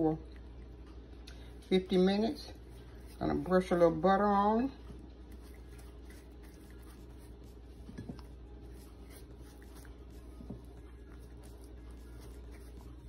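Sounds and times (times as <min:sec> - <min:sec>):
steady low hum: 0:00.0 - 0:13.0
pastry brush dabbing: 0:01.5 - 0:13.0.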